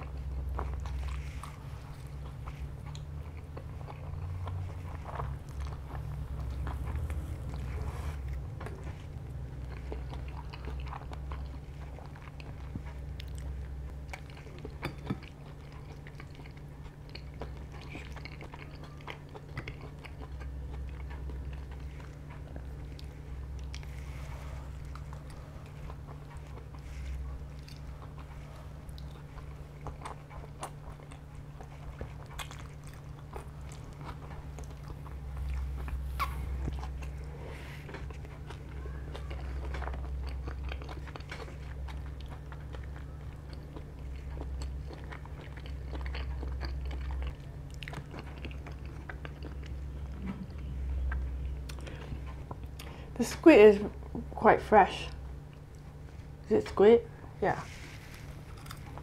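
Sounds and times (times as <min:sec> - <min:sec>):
person chewing and slurping: 0:00.0 - 0:53.1, 0:57.6 - 0:59.0
low hum: 0:00.0 - 0:59.0.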